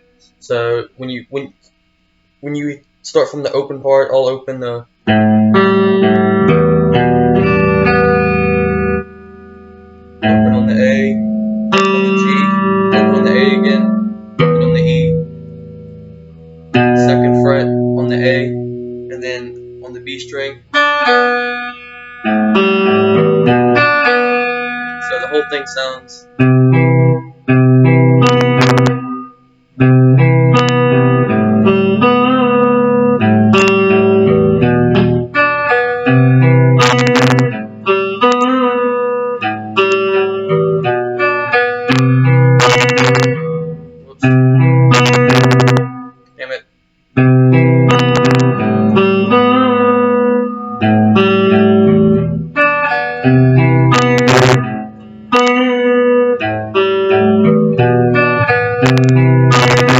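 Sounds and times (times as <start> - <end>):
guitar picking single notes: 0.0 - 59.9.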